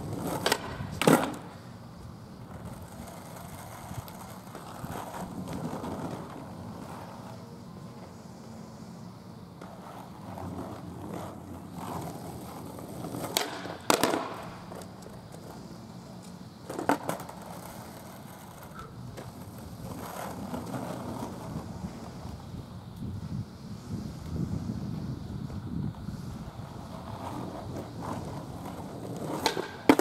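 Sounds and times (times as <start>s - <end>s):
skateboard clacking on ground: 0.0s - 8.5s, 9.5s - 23.1s, 25.4s - 30.0s
skateboard wheels rolling on asphalt: 0.0s - 30.0s.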